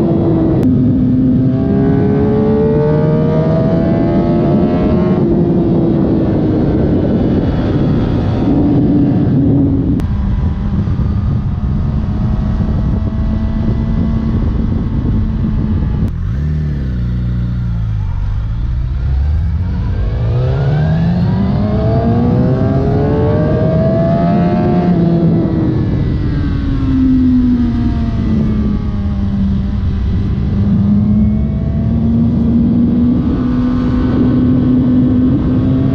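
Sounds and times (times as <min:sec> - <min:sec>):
motorcycle engine accelerating: 0:00.0 - 0:35.9.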